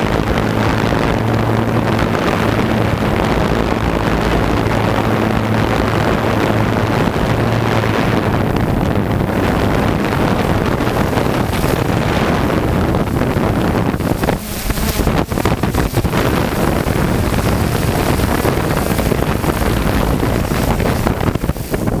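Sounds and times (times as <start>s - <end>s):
drone motors and propellers: 0.0s - 22.0s
wind buffeting microphone: 0.0s - 22.0s.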